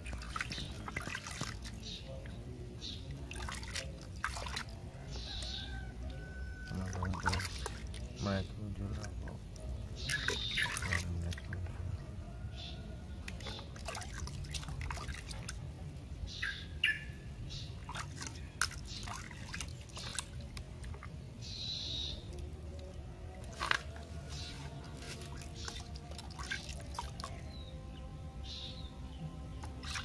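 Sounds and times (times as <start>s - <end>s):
water splashing in a basin: 0.0s - 15.9s, 17.6s - 27.7s, 29.5s - 30.0s.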